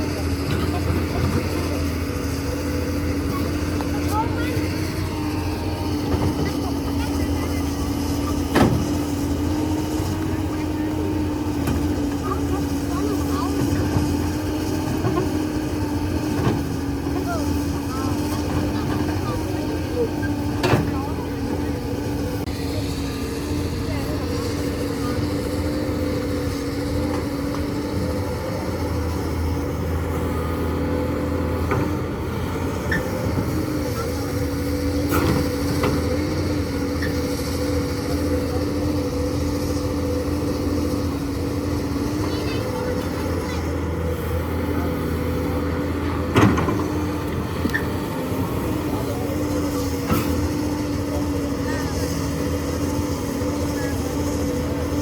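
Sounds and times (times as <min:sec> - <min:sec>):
diesel engine running under load: 0:00.0 - 0:55.0
steady whine: 0:00.0 - 0:55.0.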